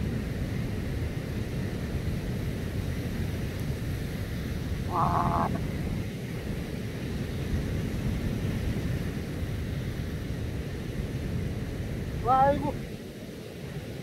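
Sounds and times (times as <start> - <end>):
surf washing: 0.0 - 14.0
wind buffeting microphone: 0.0 - 14.0.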